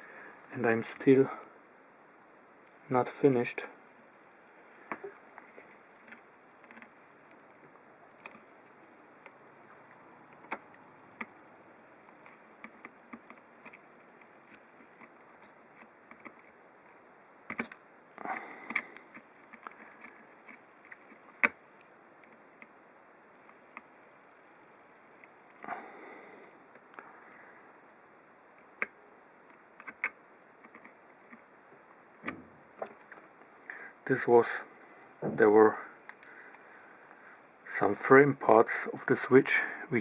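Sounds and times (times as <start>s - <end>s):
steady low hiss: 0.0s - 40.0s.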